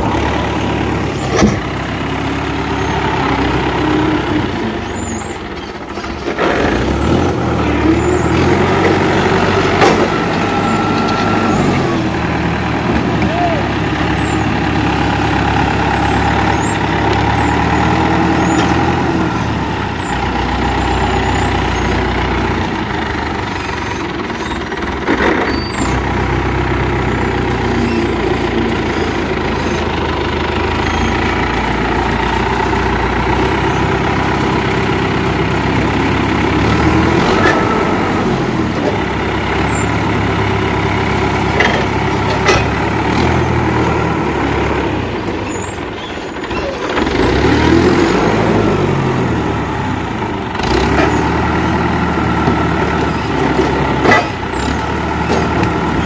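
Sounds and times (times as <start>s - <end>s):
forklift engine running: 0.0s - 56.0s.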